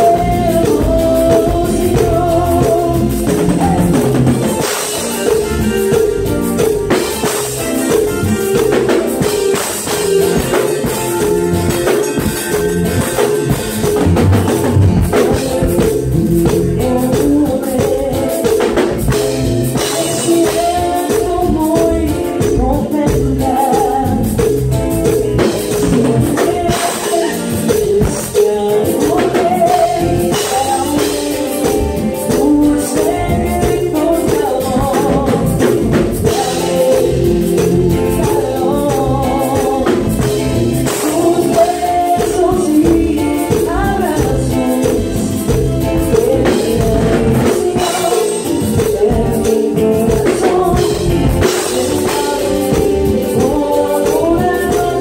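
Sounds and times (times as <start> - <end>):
drum kit: 0.0 - 55.0
electric guitar: 0.0 - 55.0
woman singing lead: 0.0 - 55.0.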